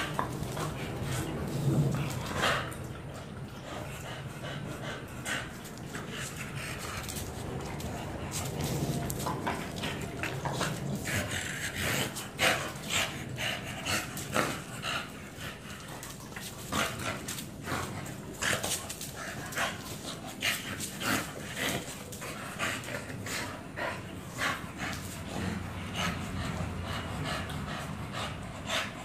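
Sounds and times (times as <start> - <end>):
dogs panting and huffing: 0.0 - 29.0.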